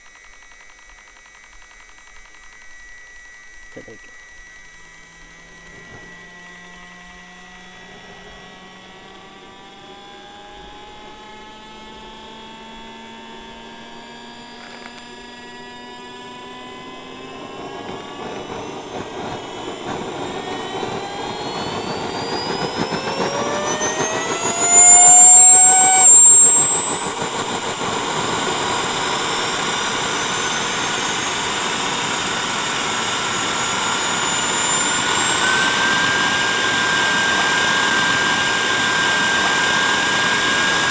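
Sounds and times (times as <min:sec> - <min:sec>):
turbine engine whine: 0:00.0 - 0:40.9.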